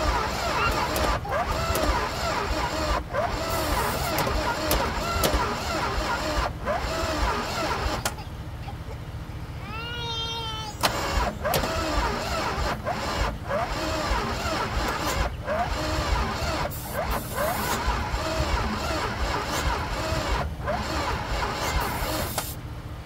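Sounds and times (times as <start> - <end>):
engine starter cranking: 0.0 - 8.2, 10.8 - 22.6
short high squeaks: 0.0 - 8.2, 10.8 - 22.6.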